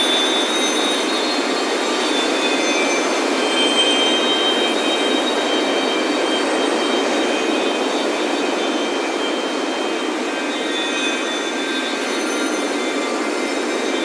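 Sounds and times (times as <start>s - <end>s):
wind chimes ringing faintly: 0.0s - 14.0s.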